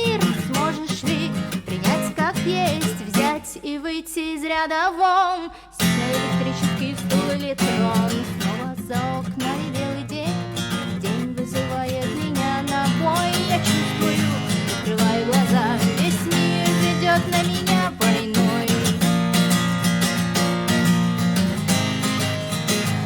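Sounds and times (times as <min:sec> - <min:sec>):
acoustic guitar strumming chords: 0:00.0 - 0:03.5, 0:05.8 - 0:23.0.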